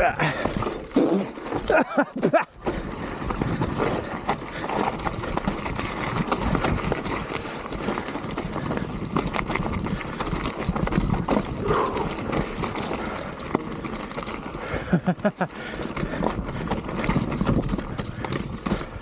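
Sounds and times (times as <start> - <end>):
bike knocks and rattles: 0.0 - 19.0
bike tyres rolling on dirt: 0.0 - 19.0.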